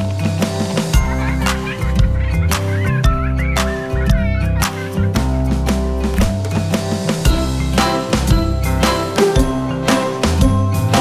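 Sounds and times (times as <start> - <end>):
background music with bass and percussion: 0.0 - 11.0.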